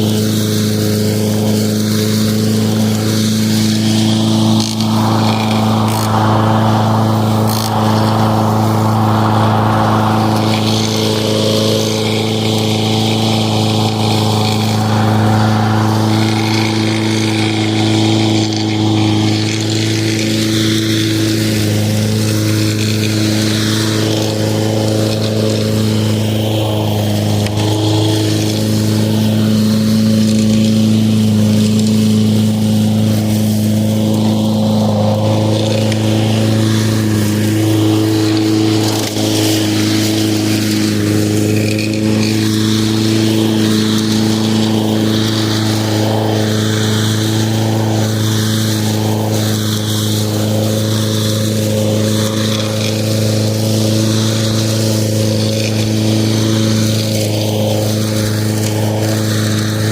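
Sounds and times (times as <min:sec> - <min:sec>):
lawn mower humming: 0:00.0 - 0:59.9
shifting hiss: 0:00.0 - 0:59.9.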